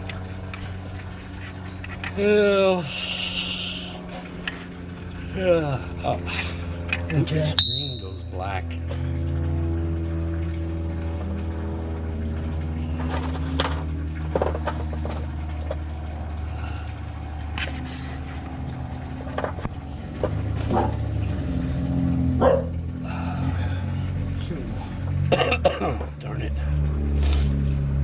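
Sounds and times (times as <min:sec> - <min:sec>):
engine droning at low pitch: 0:00.0 - 0:28.0.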